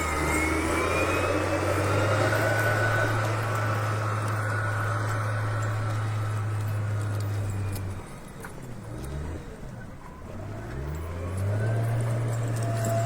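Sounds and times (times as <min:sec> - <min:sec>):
heavy machine engine droning: 0:00.0 - 0:13.0.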